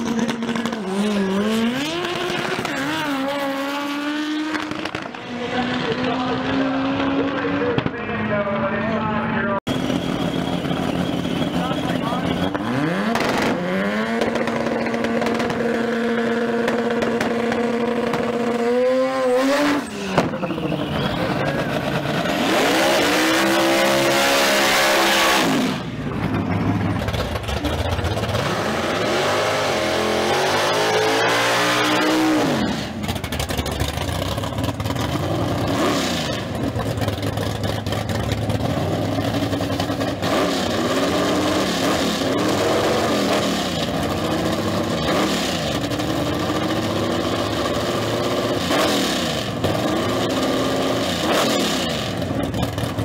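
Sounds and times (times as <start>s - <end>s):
drag race car engines revving: 0.0s - 53.0s.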